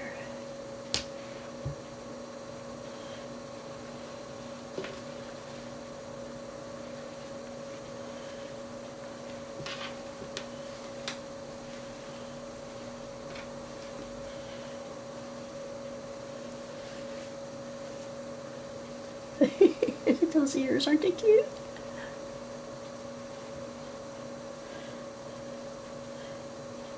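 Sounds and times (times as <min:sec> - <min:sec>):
steady electrical hum: 0:00.0 - 0:26.9.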